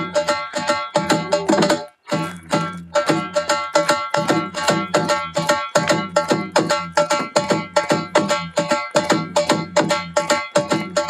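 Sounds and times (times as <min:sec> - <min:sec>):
bhangra music with fast percussion: 0:00.0 - 0:11.0.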